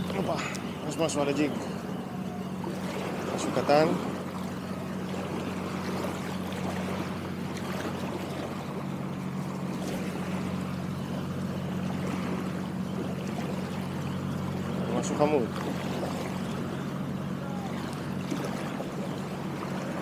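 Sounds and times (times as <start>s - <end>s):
constant low hum: 0.0s - 20.0s
moving water: 0.0s - 20.0s.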